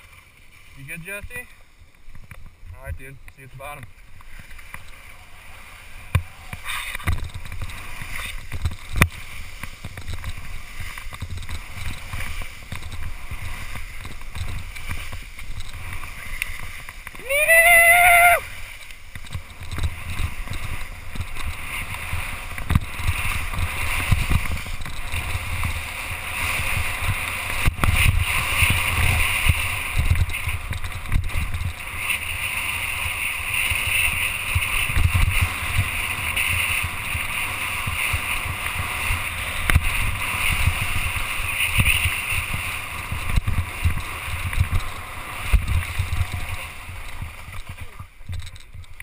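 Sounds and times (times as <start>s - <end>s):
skis scraping over snow: 0.0s - 49.0s
wind buffeting microphone: 2.2s - 49.0s.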